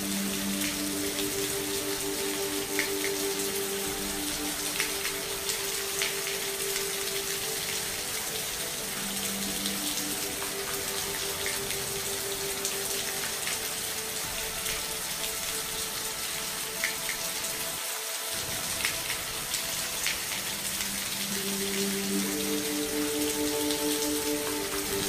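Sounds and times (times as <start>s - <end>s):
raindrops ticking: 0.0s - 25.0s
steady rain hiss: 0.0s - 25.0s.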